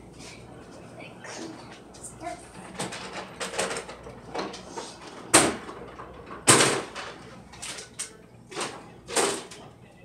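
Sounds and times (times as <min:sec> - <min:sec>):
clatter and rustling: 0:01.4 - 0:09.7.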